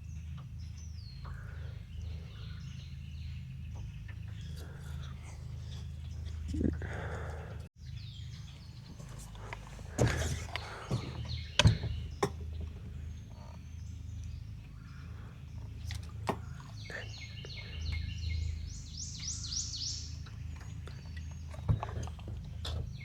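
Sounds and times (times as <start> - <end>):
songbird singing: 0.0 - 23.0
steady low hum: 0.0 - 23.0.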